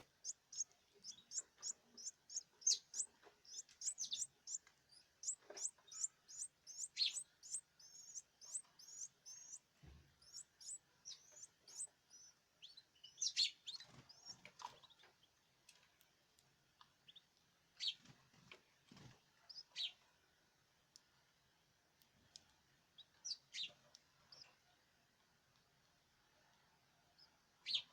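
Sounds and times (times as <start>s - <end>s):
small cage birds chirping: 0.0s - 27.9s.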